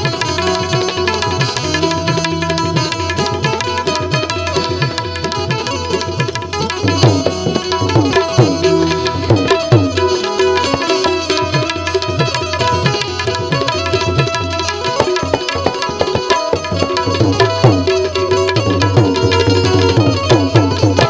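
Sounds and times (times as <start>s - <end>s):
held melodic instrument notes: 0.0s - 21.0s
tabla playing a rhythm: 0.0s - 21.0s.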